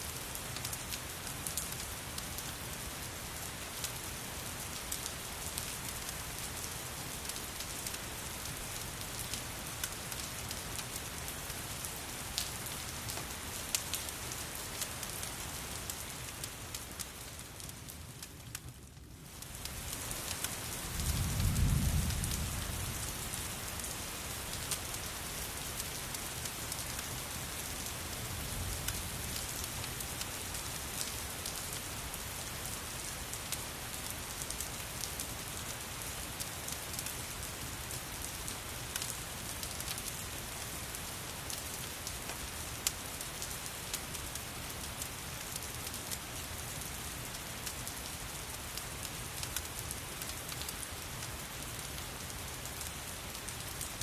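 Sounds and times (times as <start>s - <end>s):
fireplace fire crackling: 0.0s - 54.0s
rain pattering: 0.0s - 54.0s.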